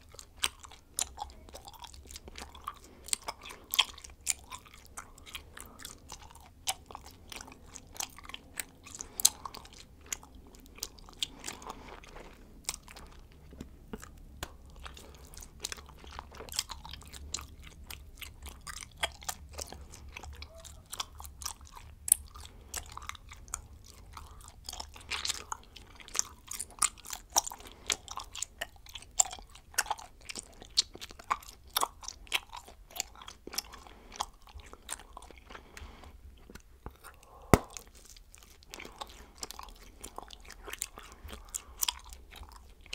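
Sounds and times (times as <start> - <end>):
gum chewing with wet smacks: 0.0 - 42.9.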